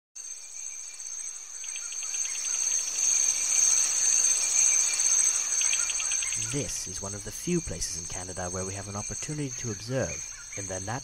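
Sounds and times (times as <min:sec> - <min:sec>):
insect chirping pulses: 0:00.2 - 0:11.0
insect high-pitched shrill: 0:00.2 - 0:11.0.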